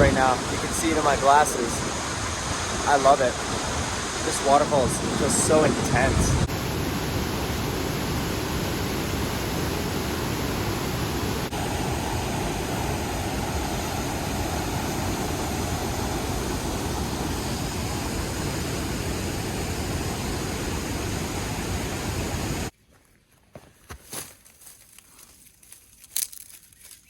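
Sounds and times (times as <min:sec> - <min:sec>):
waterfall rushing: 0:00.0 - 0:22.7.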